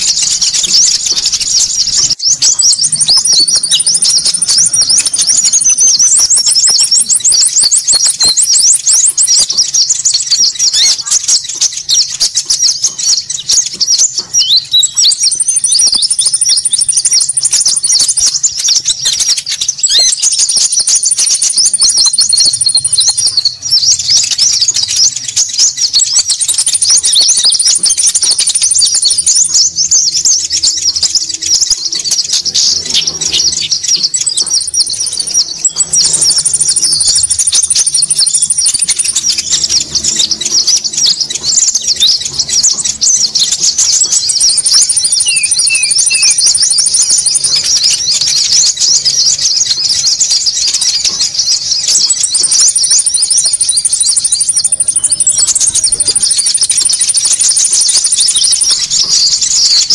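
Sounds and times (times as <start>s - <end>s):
chatter of high bird chips: 0.0s - 59.9s
high even bird trill: 0.0s - 59.9s.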